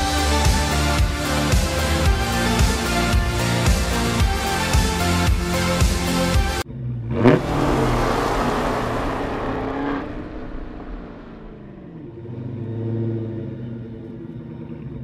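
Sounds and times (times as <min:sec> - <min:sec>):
car engine revving: 0:00.0 - 0:15.0
low engine hum: 0:00.0 - 0:15.0.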